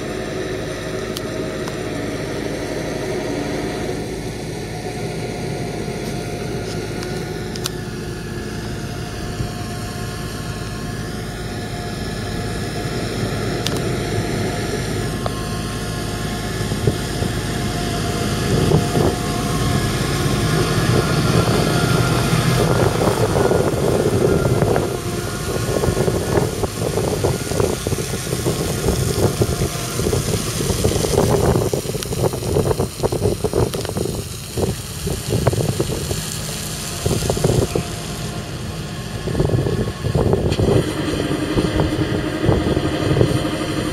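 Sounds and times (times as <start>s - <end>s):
choppy rushing noise: 0.0s - 43.9s
tractor diesel engine running: 0.0s - 43.9s.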